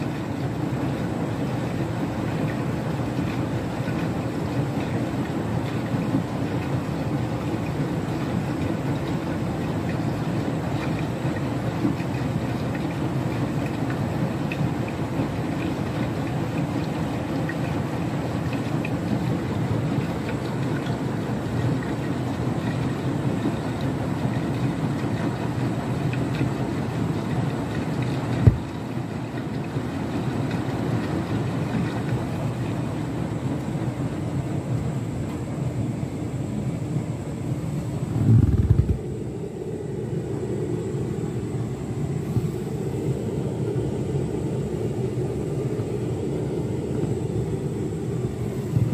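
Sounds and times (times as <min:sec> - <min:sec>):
washing machine churning water: 0:00.0 - 0:48.9.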